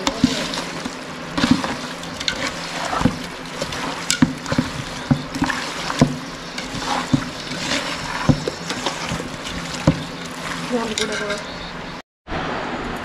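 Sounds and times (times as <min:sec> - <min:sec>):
hand squelching chicken in pot: 0:00.0 - 0:11.6.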